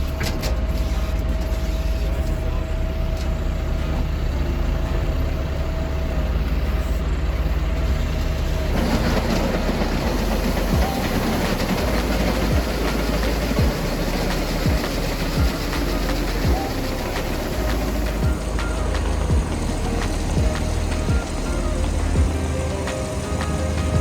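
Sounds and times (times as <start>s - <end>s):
farm machinery engine rumble: 0.0s - 24.0s.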